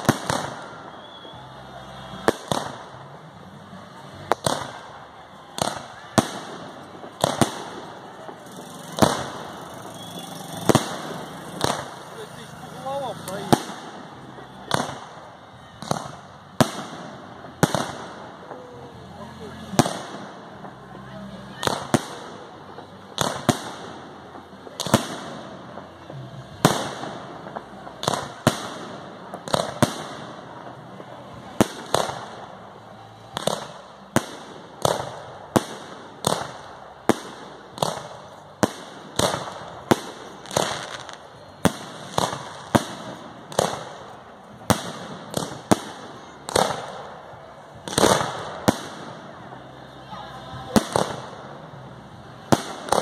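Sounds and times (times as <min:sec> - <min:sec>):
fireworks bursting with bangs: 0:00.0 - 0:53.0.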